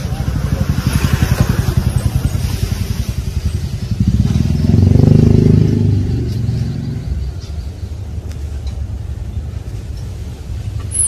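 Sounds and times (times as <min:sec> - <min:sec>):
passing vehicle engine: 0:00.0 - 0:11.0.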